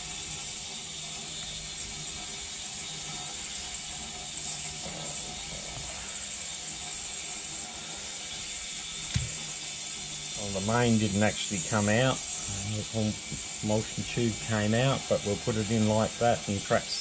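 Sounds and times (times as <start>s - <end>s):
parts cleaner drone: 1.8s - 17.0s.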